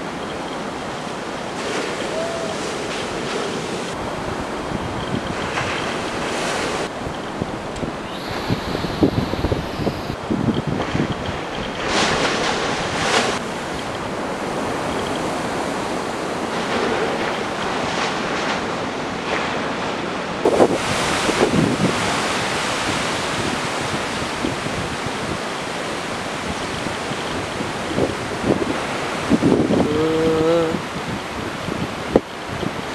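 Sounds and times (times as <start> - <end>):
ocean surf breaking: 0.0 - 32.9
wind buffeting microphone: 0.0 - 32.9.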